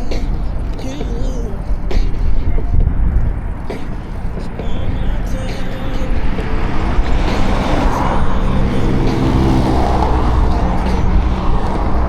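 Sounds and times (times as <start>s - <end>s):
cars passing close by: 0.0s - 12.0s
wind rumble on microphone: 0.0s - 12.0s.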